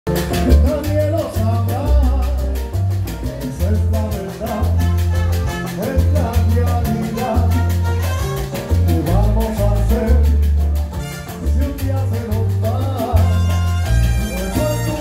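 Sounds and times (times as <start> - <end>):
conga and bongo drums: 0.0 - 15.0
live salsa band: 0.0 - 15.0.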